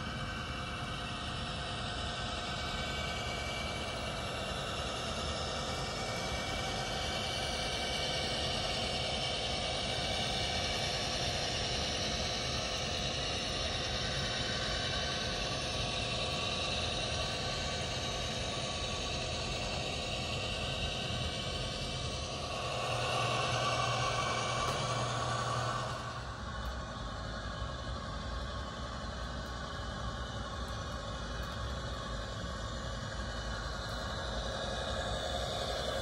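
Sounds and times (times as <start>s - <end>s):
diesel engine drone from speaker: 0.0s - 36.0s
model train running on track: 0.0s - 36.0s.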